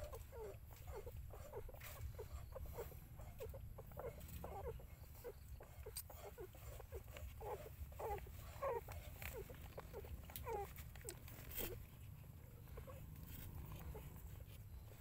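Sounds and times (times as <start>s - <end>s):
low steady rumble: 0.0s - 15.0s
puppies whimpering: 0.0s - 15.0s.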